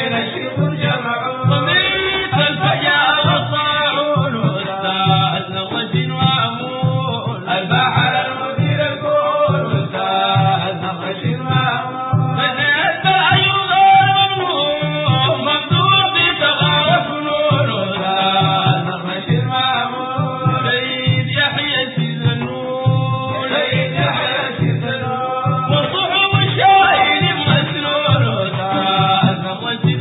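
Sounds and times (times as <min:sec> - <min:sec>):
low drum beat: 0:00.0 - 0:30.0
men chanting together: 0:00.0 - 0:30.0.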